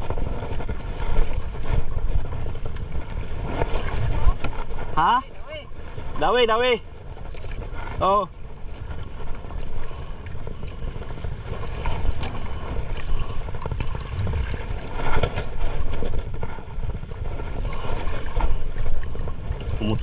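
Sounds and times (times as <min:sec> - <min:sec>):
water moving around boat: 0:00.0 - 0:20.0
wind buffeting microphone: 0:00.0 - 0:20.0.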